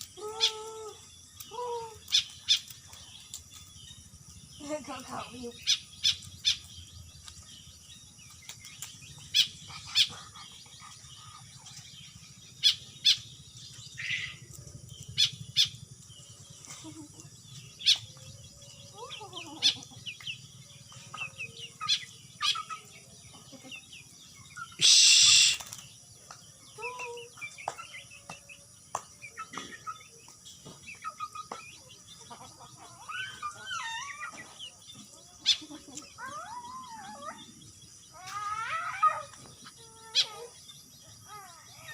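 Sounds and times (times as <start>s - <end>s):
starling chirping and warbling: 0.0s - 41.9s.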